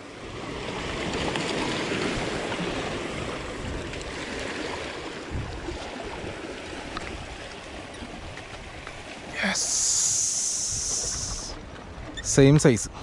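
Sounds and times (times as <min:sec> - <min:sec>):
sea water washing: 0:00.0 - 0:12.8.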